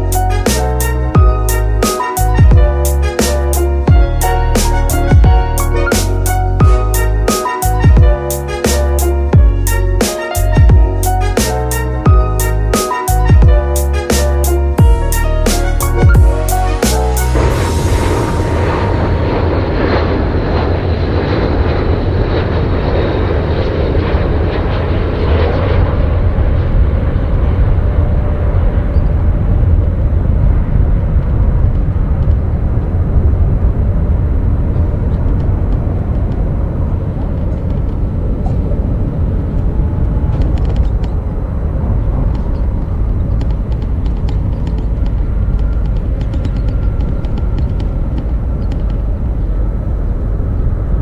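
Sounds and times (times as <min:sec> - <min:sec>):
jet engines rumbling: 0:00.0 - 0:51.0.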